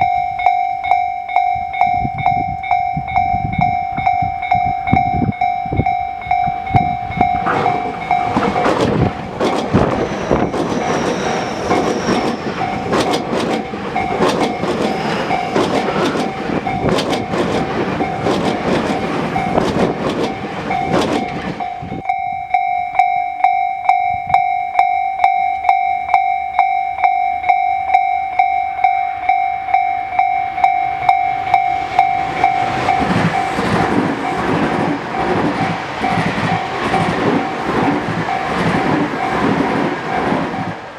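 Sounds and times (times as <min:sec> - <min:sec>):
level crossing bell ringing: 0:00.0 - 0:13.0, 0:13.6 - 0:40.3
train wheels clattering: 0:02.7 - 0:22.2, 0:27.0 - 0:40.9.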